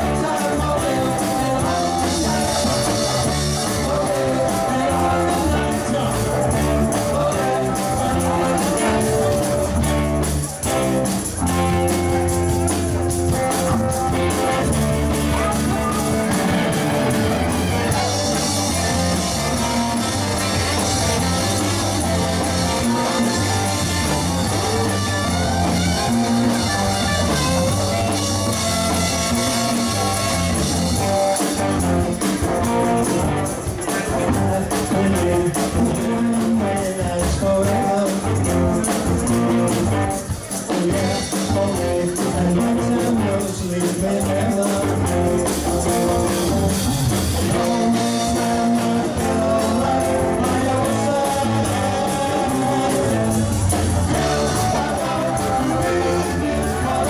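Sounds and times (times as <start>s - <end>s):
electric guitar: 0.0s - 57.0s
rock band playing: 0.0s - 57.0s.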